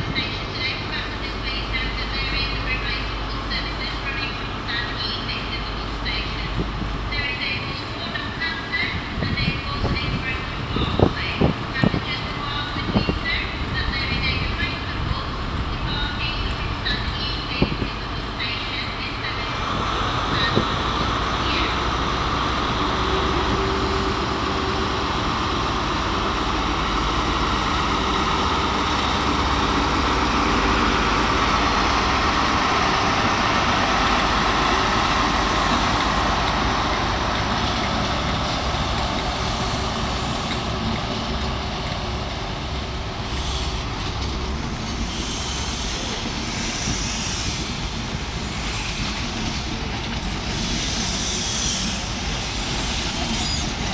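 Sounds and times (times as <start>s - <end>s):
diesel train engine noise: 0.0s - 53.9s.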